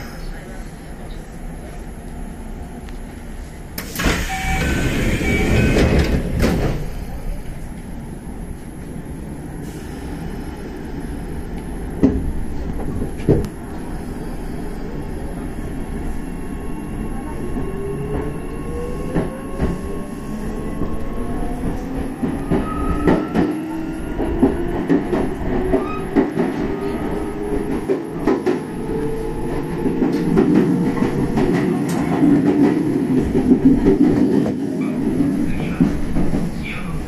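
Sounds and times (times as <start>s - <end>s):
electric train rumble: 0.0s - 37.0s.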